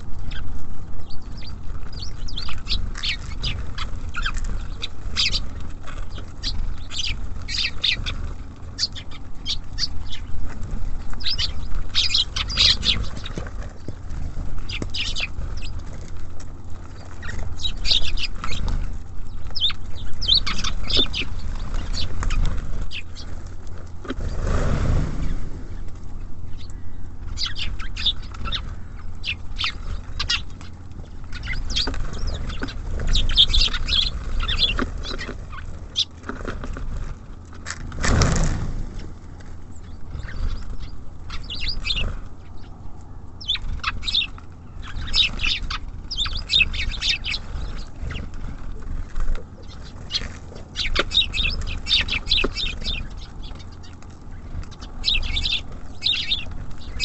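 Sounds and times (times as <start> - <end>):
low background rumble: 0.0 - 57.0
small birds chirping: 0.0 - 57.0
wing flutters: 0.0 - 57.0.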